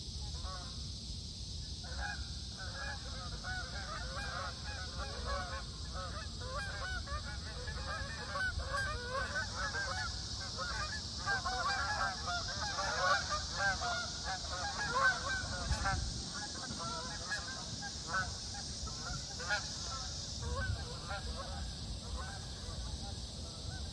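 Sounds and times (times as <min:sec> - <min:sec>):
steady background hiss: 0:00.0 - 0:23.9.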